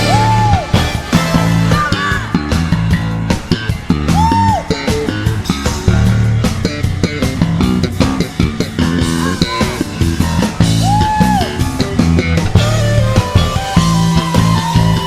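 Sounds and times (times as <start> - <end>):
bending lead note: 0.0 - 15.0
electric bass line: 0.0 - 15.0
jazz-fusion band music: 0.0 - 15.0.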